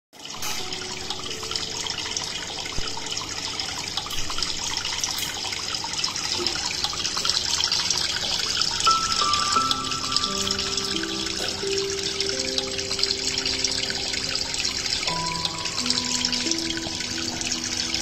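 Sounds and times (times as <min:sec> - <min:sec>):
water trickling and splashing: 0:00.2 - 0:18.0.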